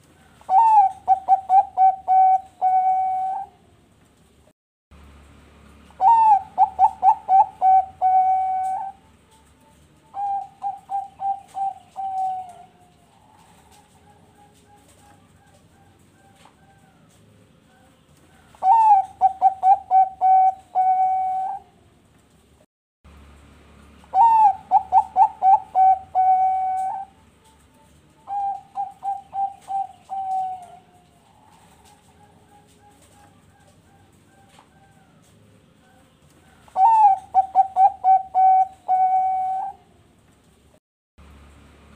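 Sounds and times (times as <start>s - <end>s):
dove cooing: 0.0s - 3.8s, 5.9s - 22.0s, 24.1s - 40.7s.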